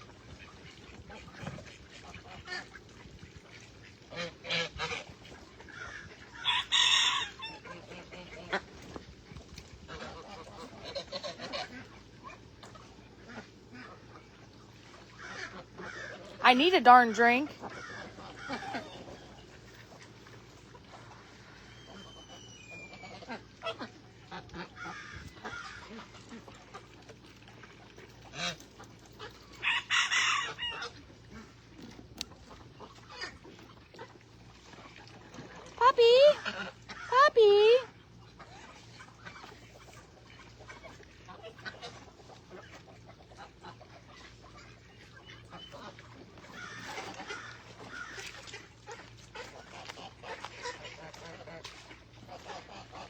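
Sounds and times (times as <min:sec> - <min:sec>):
ducks and geese honking and quacking: 0:00.0 - 0:53.0.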